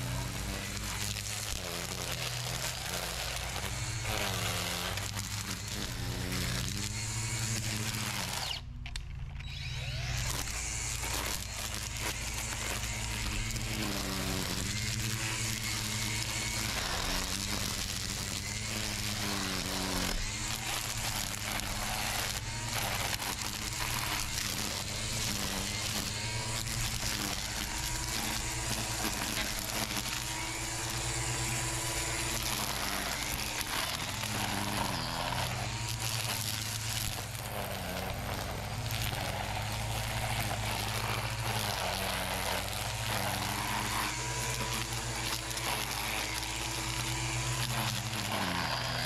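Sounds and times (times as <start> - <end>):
string trimmer motor whine: 0.0 - 49.0.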